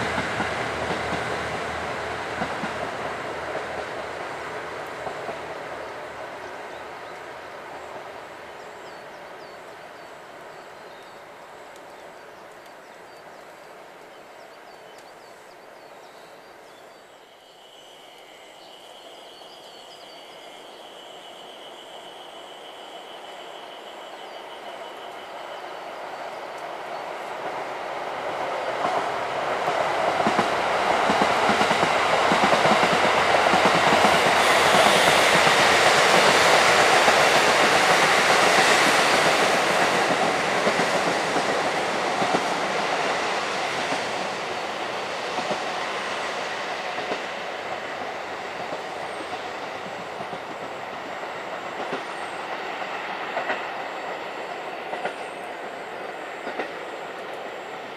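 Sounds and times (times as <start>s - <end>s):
diesel train passing: 0.0s - 57.9s.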